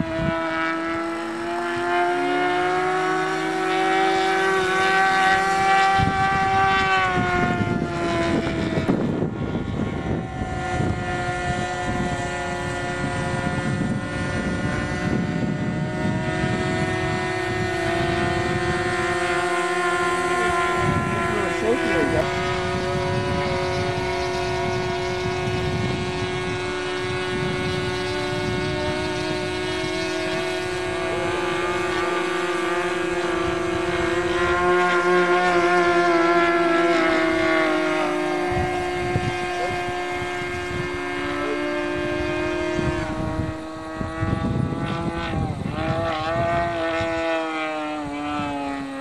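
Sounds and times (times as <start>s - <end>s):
model plane engine in flight: 0.0s - 49.0s.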